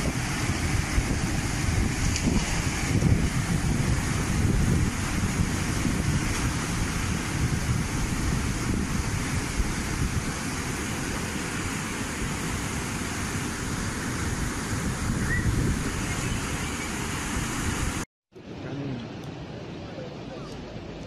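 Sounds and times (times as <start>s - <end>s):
wind buffeting the microphone: 0.0s - 18.0s
floodwater rushing: 0.0s - 21.0s.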